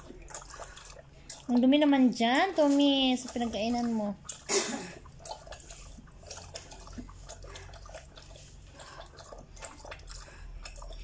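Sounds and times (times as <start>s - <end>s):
dog lapping water: 0.0s - 11.0s.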